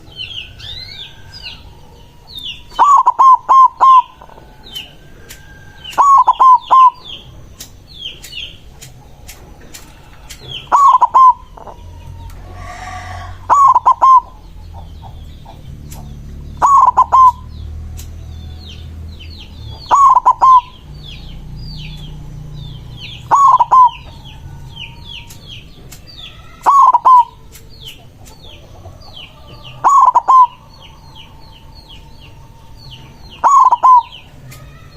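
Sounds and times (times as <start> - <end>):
dove cooing song: 0.0 - 34.9
small birds chirping: 0.0 - 34.9.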